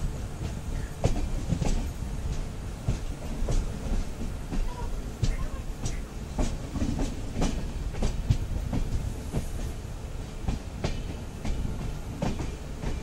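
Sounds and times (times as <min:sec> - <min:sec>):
low train rumble: 0:00.0 - 0:13.0
train wheels clattering: 0:00.0 - 0:13.0.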